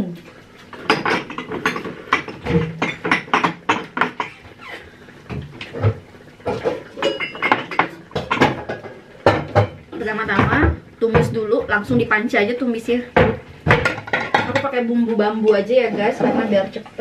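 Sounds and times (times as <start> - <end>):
pots and utensils clattering: 0.6 - 12.3, 12.9 - 17.0.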